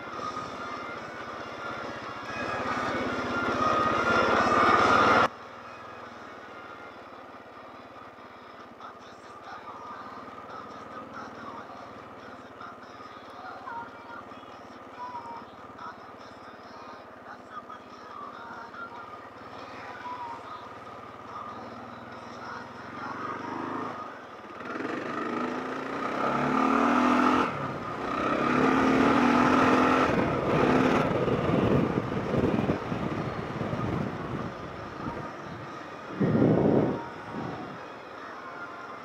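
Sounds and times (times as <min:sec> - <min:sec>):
motorcycle engine running: 0:00.0 - 0:06.2, 0:07.1 - 0:39.0.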